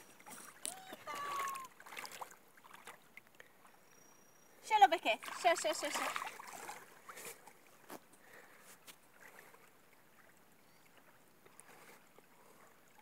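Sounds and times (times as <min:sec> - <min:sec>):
water sloshing around legs: 0:00.0 - 0:03.9, 0:04.9 - 0:13.0.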